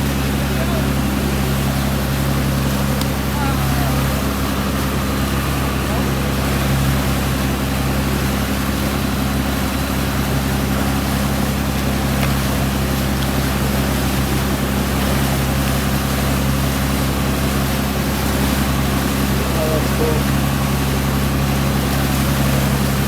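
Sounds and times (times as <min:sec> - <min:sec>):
boat engine droning: 0:00.0 - 0:23.0
water rushing along hull: 0:00.0 - 0:23.0.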